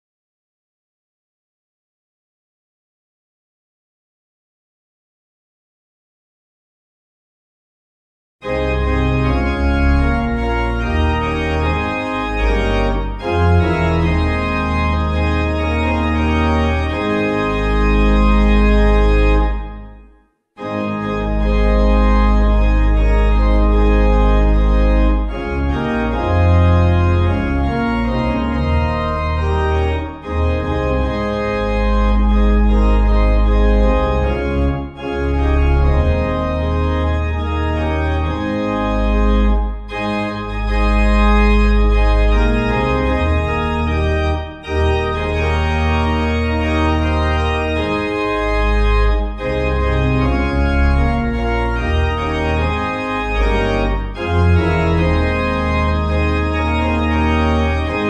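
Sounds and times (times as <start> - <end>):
organ playing slow chords: 8.4 - 58.0.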